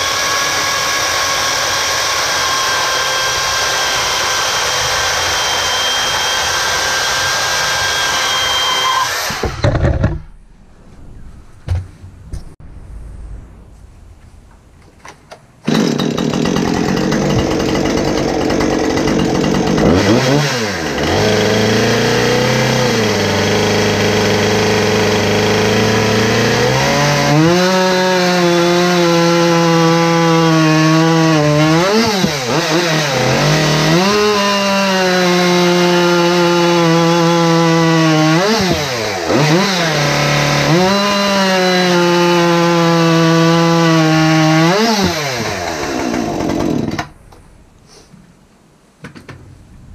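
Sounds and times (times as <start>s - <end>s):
chainsaw cutting log: 0.0s - 10.1s, 15.6s - 47.2s.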